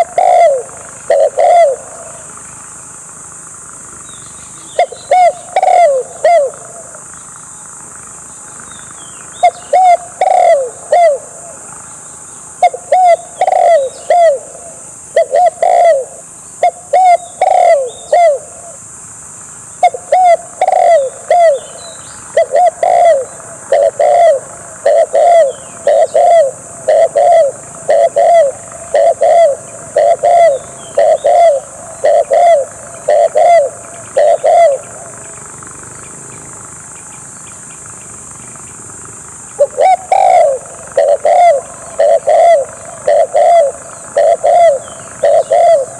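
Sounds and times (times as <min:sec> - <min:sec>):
dove cooing: 0:00.0 - 0:07.4, 0:08.8 - 0:18.9, 0:19.7 - 0:37.0, 0:37.9 - 0:45.9.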